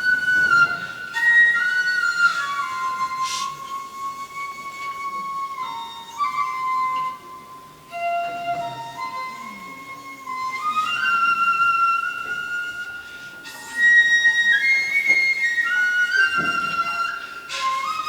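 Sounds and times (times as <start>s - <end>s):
solo flute melody: 0.0s - 18.0s.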